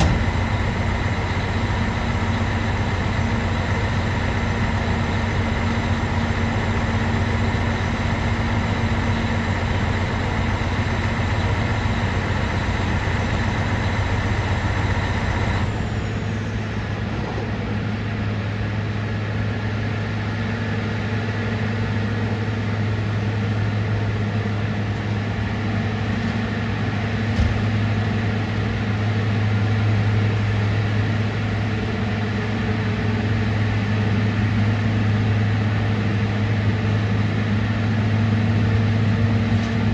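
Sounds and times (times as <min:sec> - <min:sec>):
train engine drone: 0:00.0 - 0:39.9.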